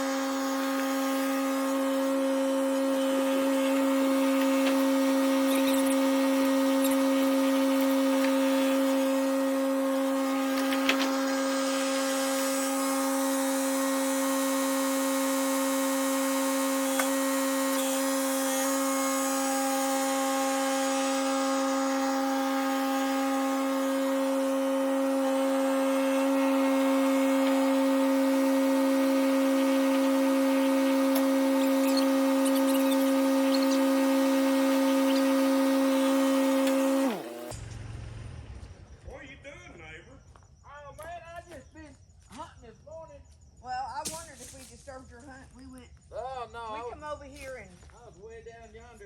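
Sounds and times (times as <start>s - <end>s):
engine whine: 0.0s - 39.8s.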